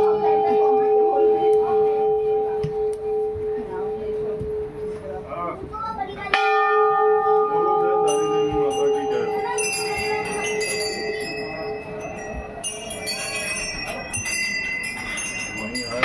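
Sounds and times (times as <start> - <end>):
higher-pitched bells struck: 0.0 - 16.0
low bell ringing: 0.0 - 16.0.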